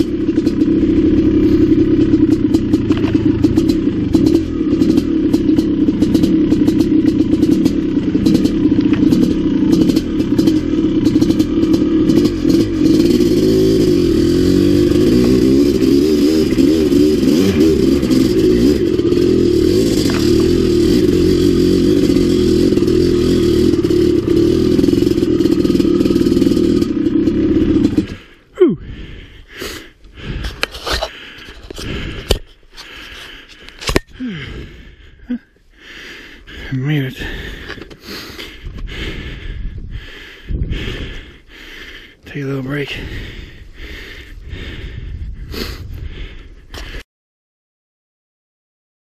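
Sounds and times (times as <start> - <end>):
bike rattling and scraping: 0.0 - 28.4, 29.2 - 35.4, 36.1 - 47.0
dirt bike engine revving: 0.0 - 47.0.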